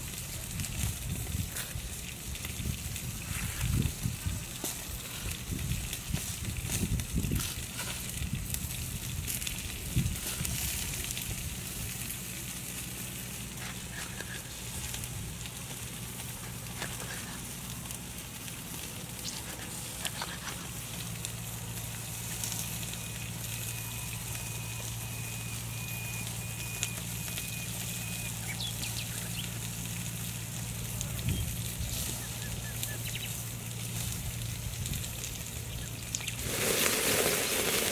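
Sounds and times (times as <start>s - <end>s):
low steady hum: 0.0s - 36.8s
cooking fire crackling: 0.0s - 37.9s.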